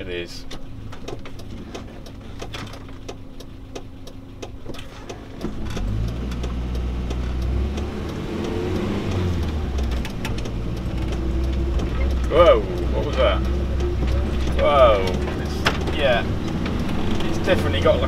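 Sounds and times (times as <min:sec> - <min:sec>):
van accelerating: 0:00.0 - 0:18.0
van engine idling with ticking: 0:00.0 - 0:18.0.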